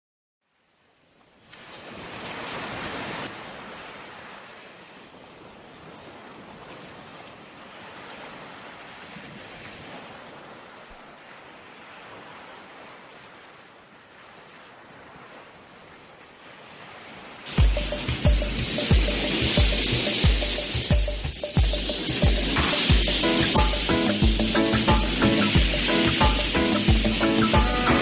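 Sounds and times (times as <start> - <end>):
ocean waves breaking: 1.4 - 28.0.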